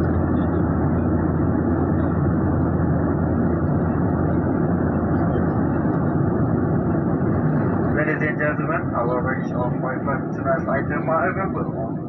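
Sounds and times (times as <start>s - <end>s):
airliner cabin engine hum: 0.0s - 12.0s.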